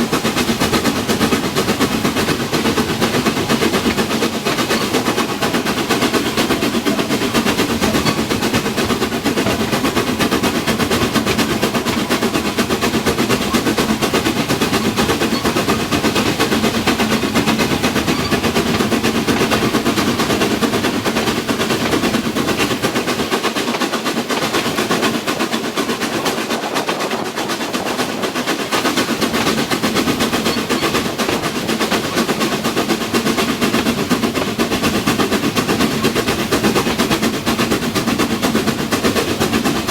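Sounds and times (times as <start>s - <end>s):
steam train clattering: 0.0s - 39.9s.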